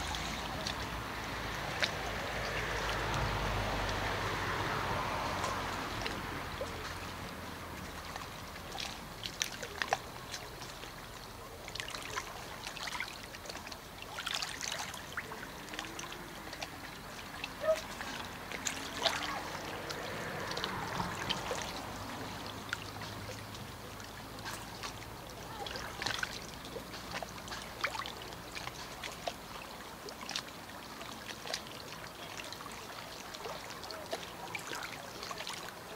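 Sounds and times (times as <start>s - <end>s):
flowing water: 0.0s - 35.9s.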